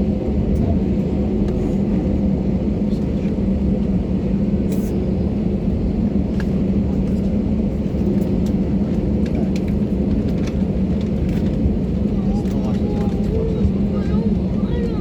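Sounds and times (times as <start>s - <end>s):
airplane cabin rumble: 0.0s - 15.0s
constant hum: 0.0s - 15.0s.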